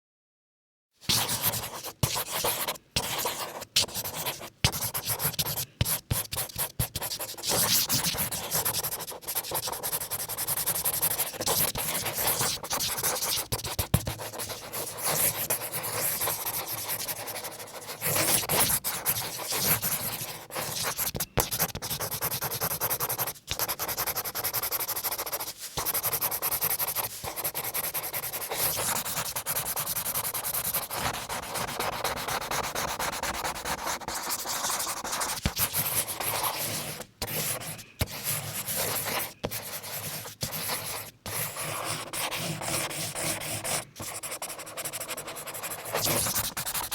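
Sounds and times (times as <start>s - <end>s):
marker scribbling on paper: 1.1s - 46.9s.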